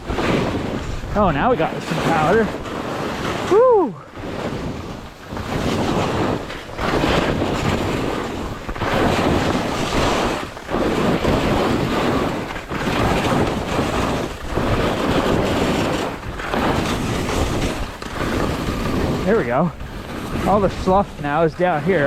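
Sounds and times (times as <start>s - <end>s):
skis hissing through powder snow: 0.0s - 22.0s
wind buffeting microphone: 0.0s - 22.0s.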